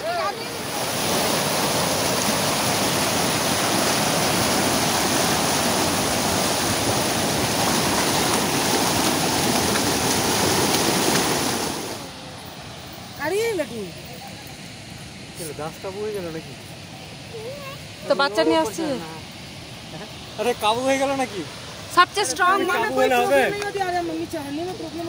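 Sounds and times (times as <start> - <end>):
river rapids rushing over boulders: 0.0 - 25.0.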